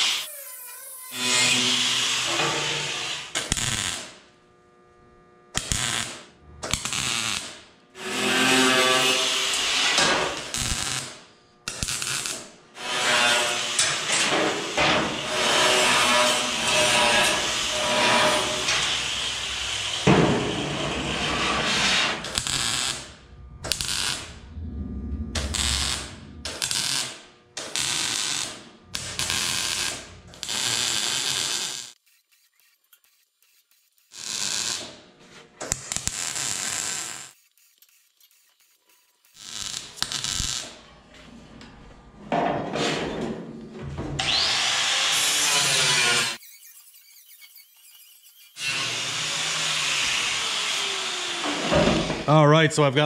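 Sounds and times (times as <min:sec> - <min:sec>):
angle grinder grinding metal: 0:00.0 - 0:04.2, 0:08.0 - 0:11.0, 0:11.7 - 0:35.1, 0:35.7 - 0:40.8, 0:44.2 - 0:52.2
welding bursts: 0:00.0 - 0:04.2, 0:05.6 - 0:24.5, 0:25.4 - 0:40.8, 0:44.2 - 0:52.3.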